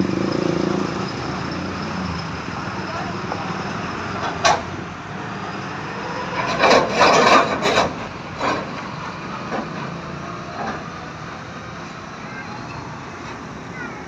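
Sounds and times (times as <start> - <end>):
heavy road traffic: 0.0 - 14.0.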